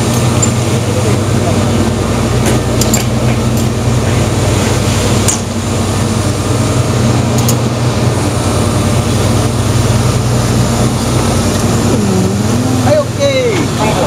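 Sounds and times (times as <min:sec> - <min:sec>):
diesel machinery humming: 0:00.0 - 0:14.0.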